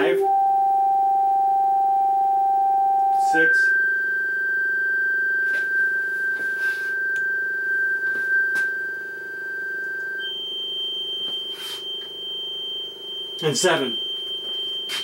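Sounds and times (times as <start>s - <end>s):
steady low hum: 0.0s - 14.7s
sine test tone: 0.0s - 15.0s.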